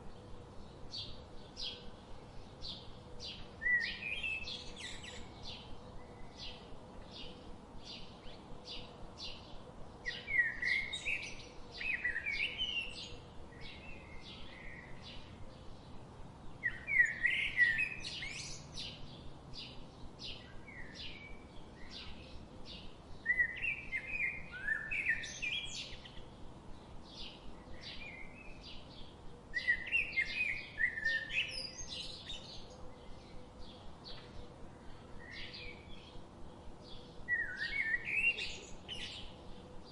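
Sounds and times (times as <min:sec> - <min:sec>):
songbirds chirping: 0:00.0 - 0:39.9
warbling bird song: 0:00.0 - 0:39.9.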